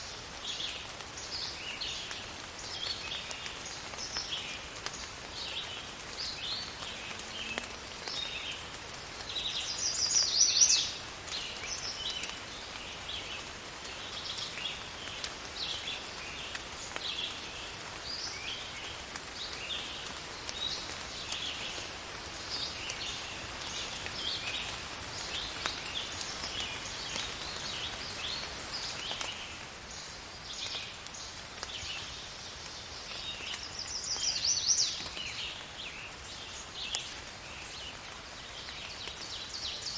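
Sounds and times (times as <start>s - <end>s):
faint hiss of rain: 0.0s - 39.9s.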